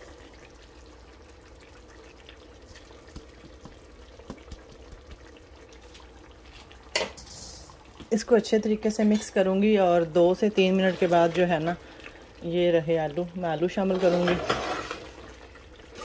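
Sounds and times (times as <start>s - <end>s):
curry simmering with bubbling: 0.0s - 16.0s.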